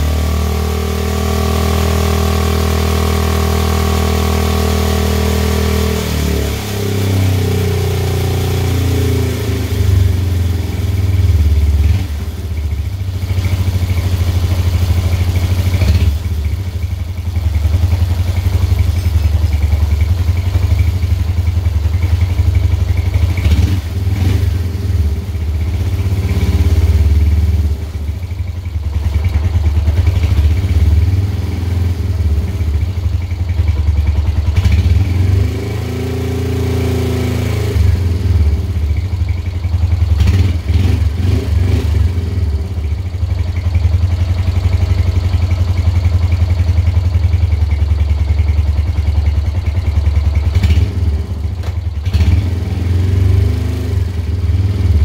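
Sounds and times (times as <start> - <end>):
motorcycle engine idling: 6.7 - 36.8, 37.7 - 55.0.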